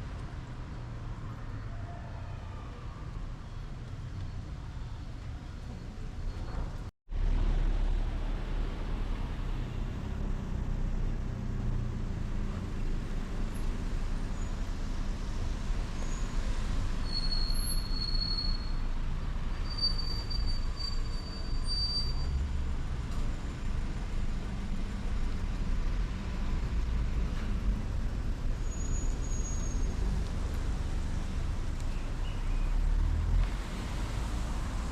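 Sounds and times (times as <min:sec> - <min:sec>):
traffic rumble: 0:00.0 - 0:34.9.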